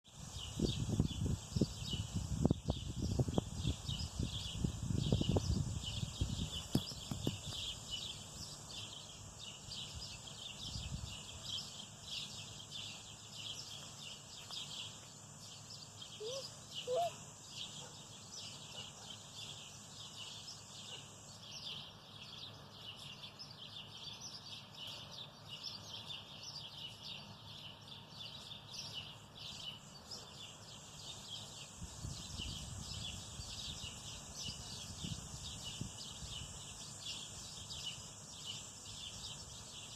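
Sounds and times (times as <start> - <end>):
birds chirping chorus: 0.1 - 39.9.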